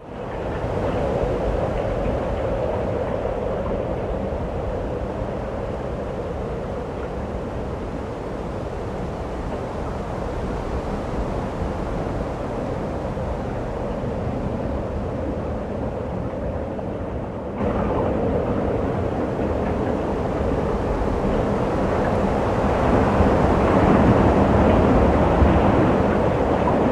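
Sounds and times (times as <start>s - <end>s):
rushing wind of snowstorm: 0.0s - 26.9s.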